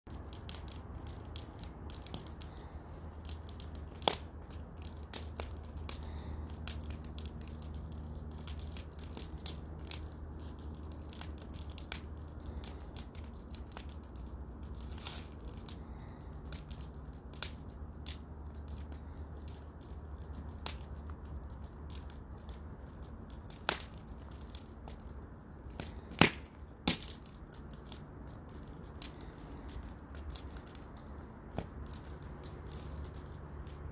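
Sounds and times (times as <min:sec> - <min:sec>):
wood fire crackling and popping: 0:00.1 - 0:33.9.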